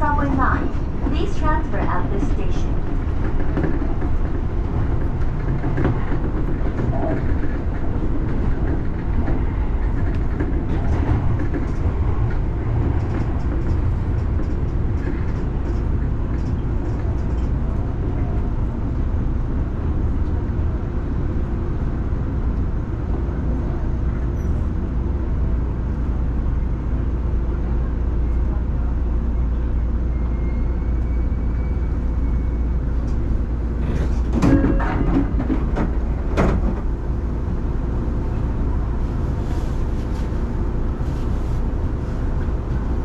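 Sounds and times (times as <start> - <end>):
train rumbling on track: 0.0 - 43.0.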